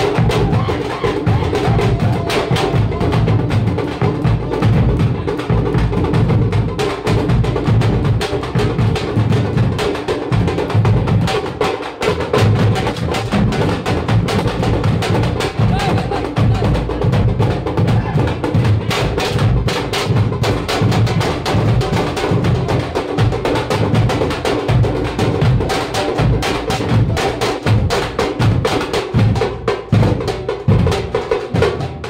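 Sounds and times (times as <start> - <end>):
drums beaten with sticks: 0.0 - 32.0.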